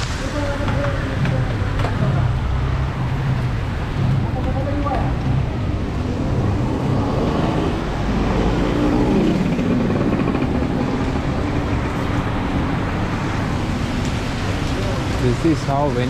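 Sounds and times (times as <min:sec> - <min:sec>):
vehicle engine passing by: 0:00.0 - 0:15.4
steady traffic rumble: 0:00.0 - 0:16.0.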